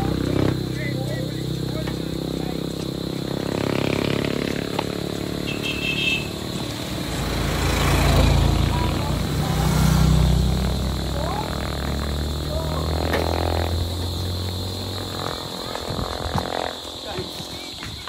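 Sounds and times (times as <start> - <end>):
small motorcycles passing: 0.0 - 18.0.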